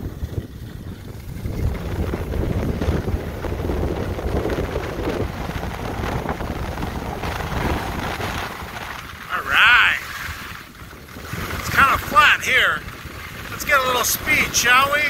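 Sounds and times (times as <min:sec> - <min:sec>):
skis sliding over snow: 0:00.0 - 0:15.0
wind rushing over microphone: 0:00.0 - 0:15.0.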